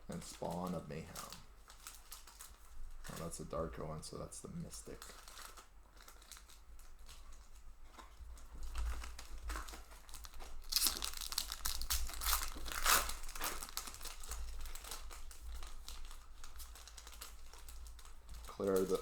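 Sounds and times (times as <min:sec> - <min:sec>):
foil wrapper crinkling and tearing: 0:00.1 - 0:19.0.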